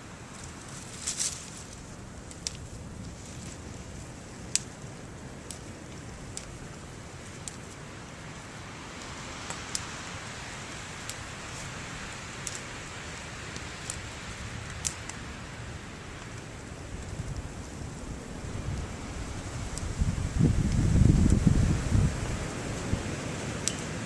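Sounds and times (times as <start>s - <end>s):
wind and blowing snow: 0.0s - 24.0s.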